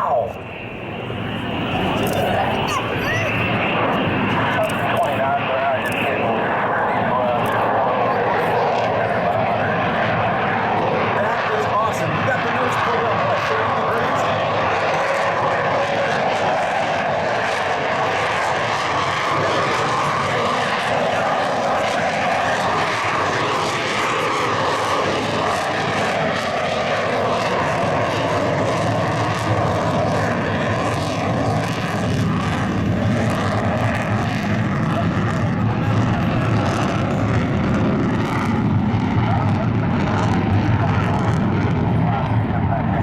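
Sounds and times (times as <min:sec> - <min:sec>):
deep jet rumble: 0:00.0 - 0:43.0
jet roar: 0:00.0 - 0:43.0.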